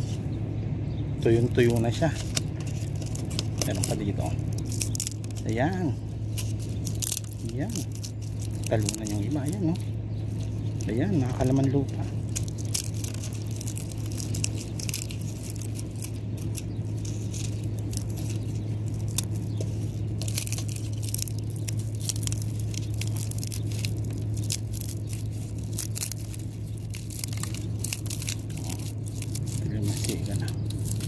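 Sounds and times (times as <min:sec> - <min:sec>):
steady low hum: 0:00.0 - 0:31.0
dried pod crackling and clicking: 0:01.0 - 0:31.0.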